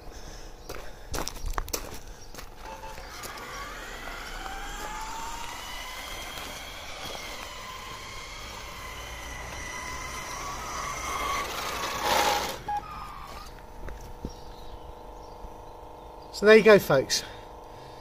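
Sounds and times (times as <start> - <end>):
radio-controlled car motor whine: 2.2 - 18.0.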